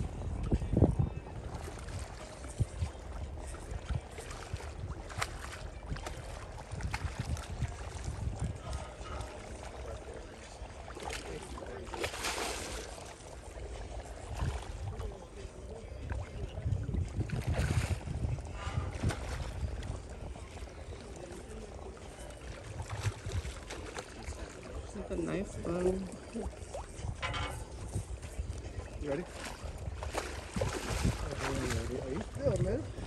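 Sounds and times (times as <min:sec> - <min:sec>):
wind rumble on microphone: 0:00.0 - 0:12.1, 0:12.8 - 0:33.0
water splashing from fish: 0:01.5 - 0:33.0.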